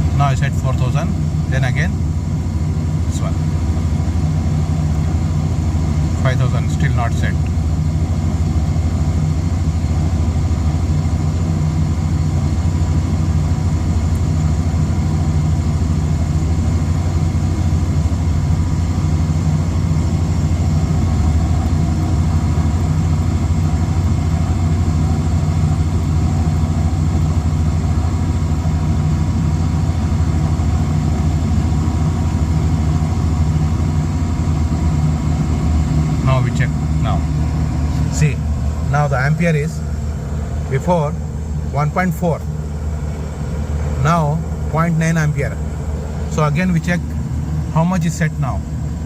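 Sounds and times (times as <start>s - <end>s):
air conditioner humming: 0.0s - 49.0s.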